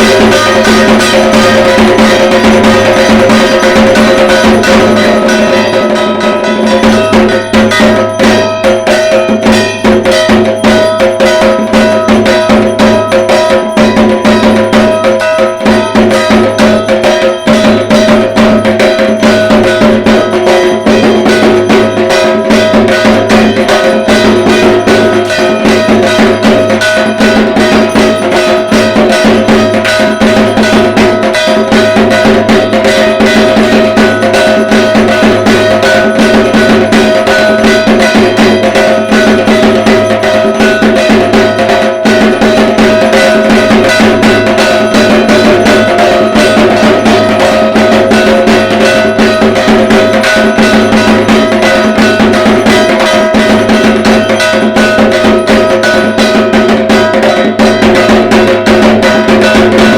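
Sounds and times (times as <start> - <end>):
clanging metal percussion: 0.0 - 59.9
drums beating fast rhythm: 0.0 - 59.9.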